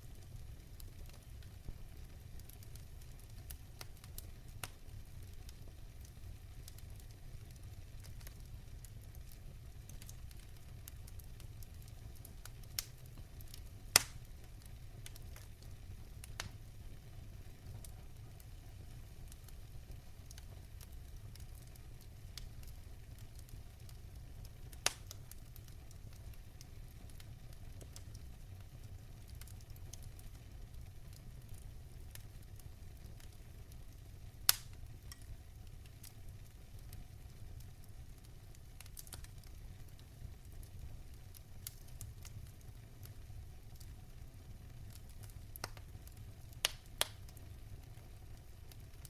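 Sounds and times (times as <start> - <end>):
low rumble of flames: 0.0 - 49.0
wood fire crackling: 0.0 - 49.0.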